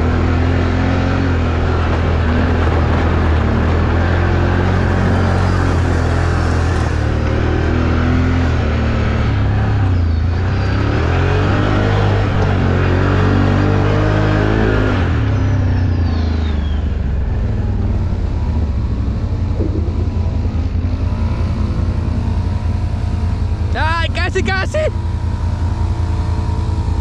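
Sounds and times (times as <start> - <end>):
atv engine running under load: 0.0 - 27.0.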